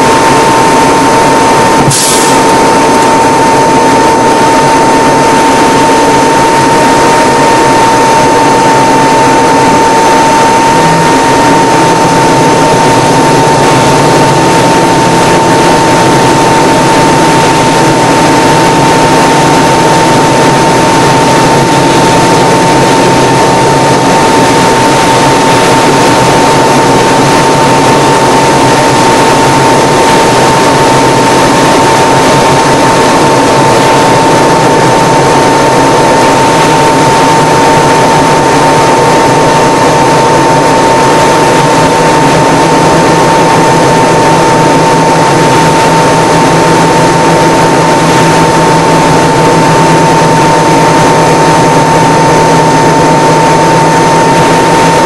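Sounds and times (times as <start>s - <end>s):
aircraft engine and propeller: 0.0s - 55.0s
steady high whine: 0.0s - 55.0s.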